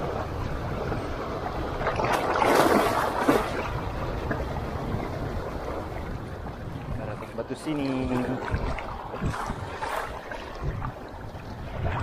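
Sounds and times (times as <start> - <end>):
shallow waves sloshing: 0.0 - 12.0
wave splash: 0.0 - 12.0
wind rumbling on microphone: 0.0 - 12.0.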